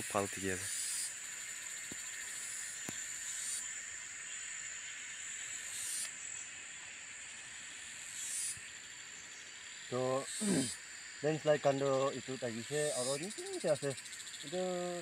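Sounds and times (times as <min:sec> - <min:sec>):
high-pitched insect drone: 0:00.0 - 0:15.0
shrill insect swell: 0:00.0 - 0:15.0.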